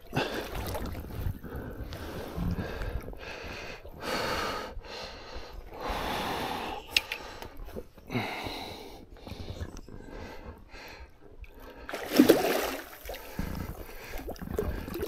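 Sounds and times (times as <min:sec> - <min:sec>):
person breathing hard: 0:01.4 - 0:12.1, 0:13.0 - 0:15.0.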